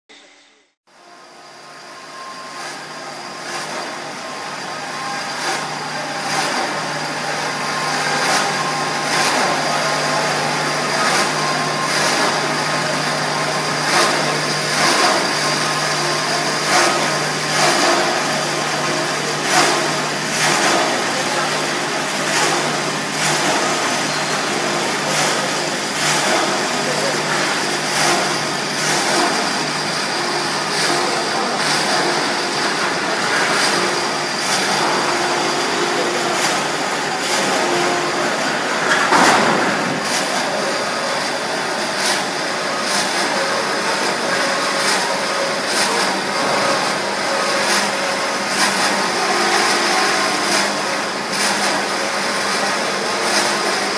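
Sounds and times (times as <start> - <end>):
band saw hum and whir: 0.1 - 53.5.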